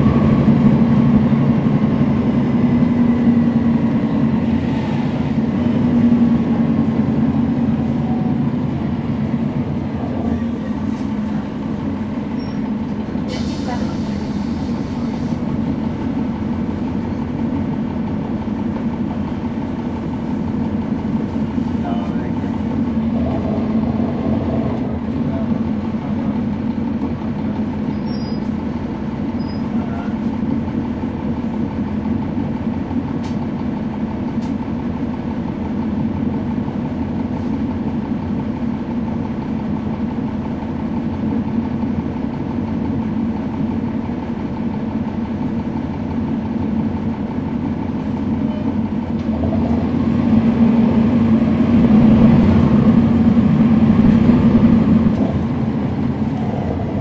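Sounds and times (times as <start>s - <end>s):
diesel bus engine droning: 0.0s - 57.0s.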